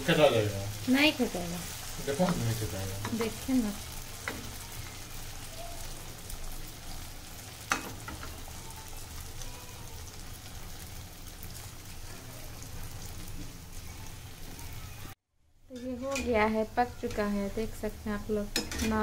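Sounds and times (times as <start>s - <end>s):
dumplings sizzling in oil: 0.0s - 19.0s.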